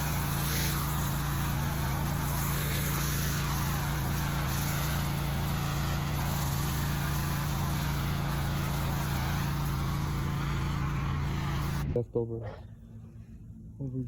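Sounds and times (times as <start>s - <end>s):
water spraying on pavement: 0.0s - 11.9s
pressure washer motor hum: 0.0s - 12.0s.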